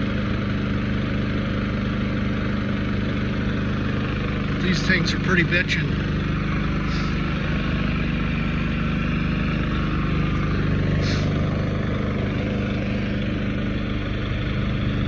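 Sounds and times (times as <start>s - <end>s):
generator engine humming: 0.0s - 15.0s.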